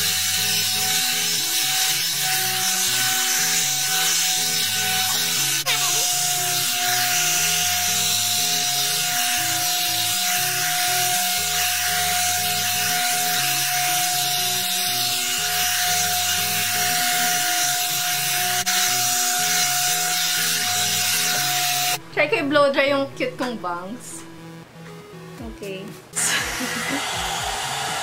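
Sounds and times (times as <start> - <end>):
hair dryer blowing: 0.0 - 22.0, 26.2 - 28.0
background music: 0.0 - 28.0.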